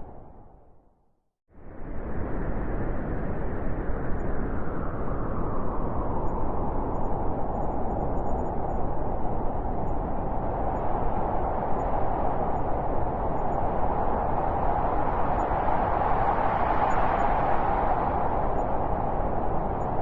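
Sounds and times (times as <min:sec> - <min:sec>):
blizzard wind blowing: 0:01.6 - 0:20.0.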